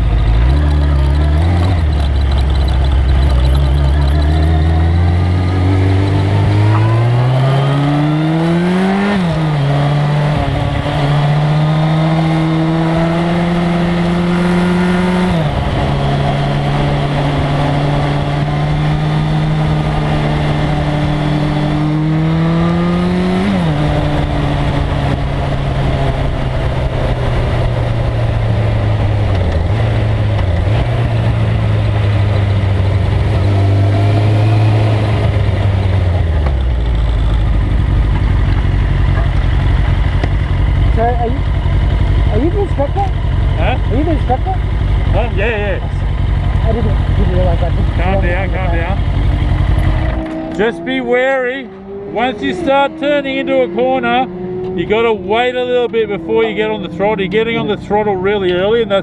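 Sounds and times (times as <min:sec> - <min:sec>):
motorcycle engine accelerating hard: 0:00.0 - 0:59.0.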